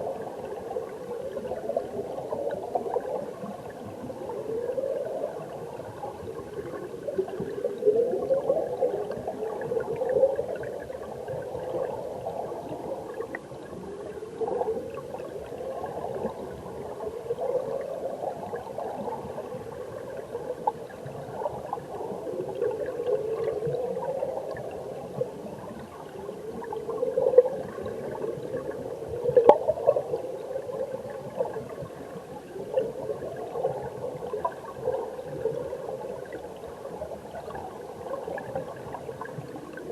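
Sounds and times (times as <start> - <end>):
underwater stream rushing: 0.0 - 39.9.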